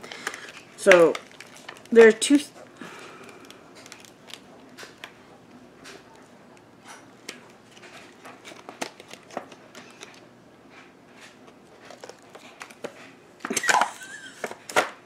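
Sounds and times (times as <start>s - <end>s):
packaging clicks and crinkling: 0.0s - 5.2s, 5.8s - 10.3s, 11.2s - 14.9s.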